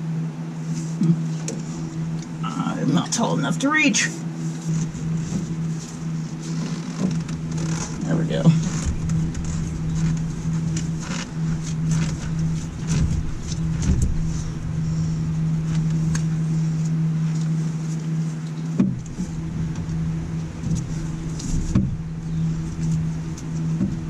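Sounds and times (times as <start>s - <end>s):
low rumble: 0.0s - 24.0s
machine hum: 0.0s - 24.0s.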